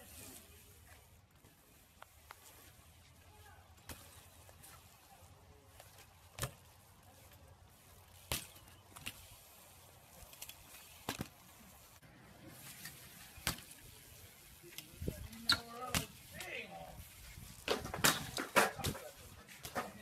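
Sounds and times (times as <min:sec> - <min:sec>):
bike landing on concrete ramps: 0:00.0 - 0:20.0.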